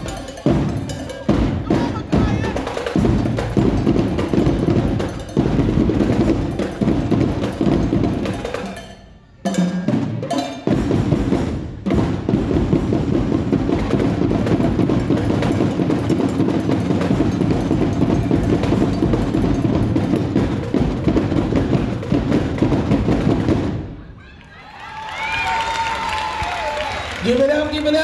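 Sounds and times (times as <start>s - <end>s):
loud drum-heavy music: 0.0s - 23.9s.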